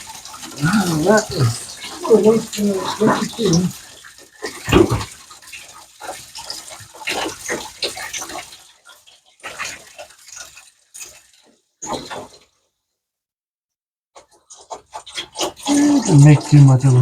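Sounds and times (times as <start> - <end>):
coolant splashing out: 0.0 - 12.5, 14.2 - 17.0.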